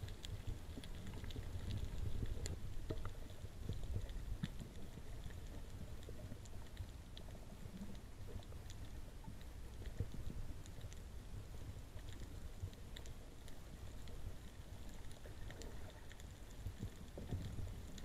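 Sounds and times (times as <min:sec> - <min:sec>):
faint clicks and crackles: 0:00.0 - 0:18.0
underwater rumble of moving water: 0:00.0 - 0:18.0.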